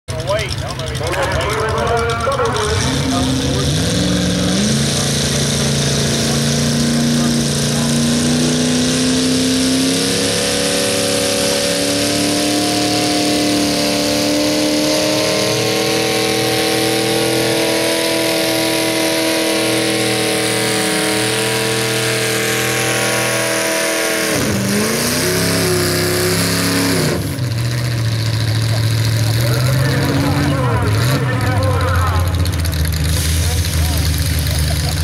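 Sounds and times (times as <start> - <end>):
tractor engine at full throttle: 0.1 - 35.0.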